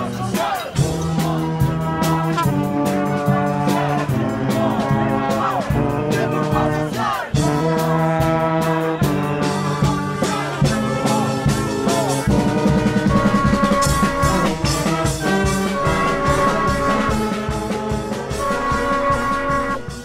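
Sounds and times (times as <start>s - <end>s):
held brass notes: 0.0s - 20.0s
steady drum beat: 0.0s - 20.0s.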